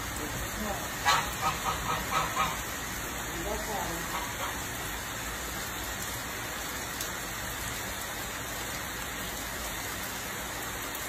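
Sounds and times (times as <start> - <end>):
heavy rain on pavement: 0.0 - 11.0.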